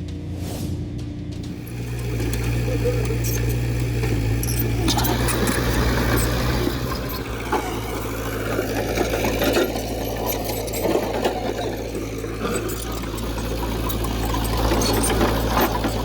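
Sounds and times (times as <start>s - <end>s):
diesel earthmoving machine running: 0.0s - 16.0s.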